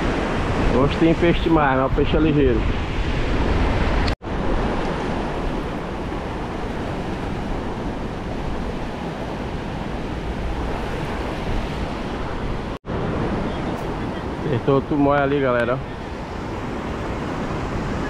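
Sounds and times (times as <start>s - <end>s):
surf washing over sand: 0.0s - 18.0s
wind buffeting microphone: 0.0s - 18.0s.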